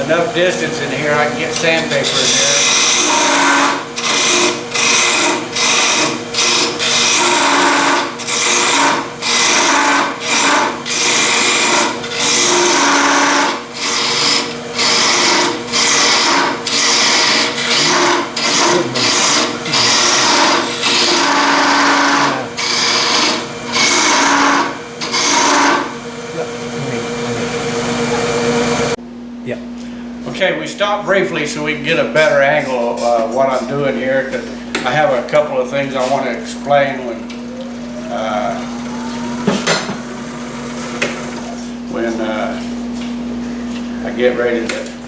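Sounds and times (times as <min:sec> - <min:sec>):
lathe motor hum: 0:00.0 - 0:29.0, 0:34.6 - 0:41.9
tool scraping spinning wood: 0:00.0 - 0:29.0, 0:33.4 - 0:42.4.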